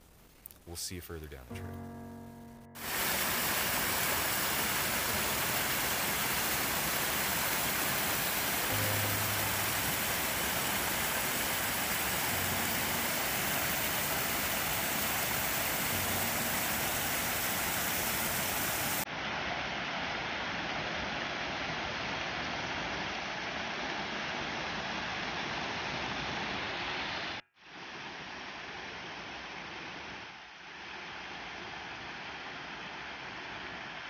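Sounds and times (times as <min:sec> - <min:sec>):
flowing stream water: 0:02.8 - 0:34.0.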